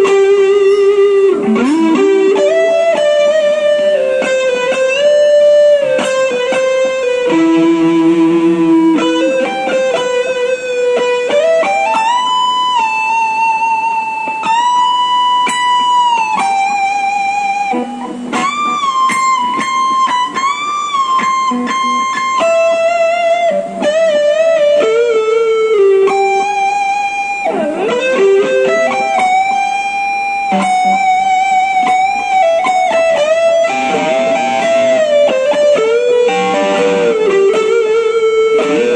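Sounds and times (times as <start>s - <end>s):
electric guitar slow lead line: 0.0s - 38.9s.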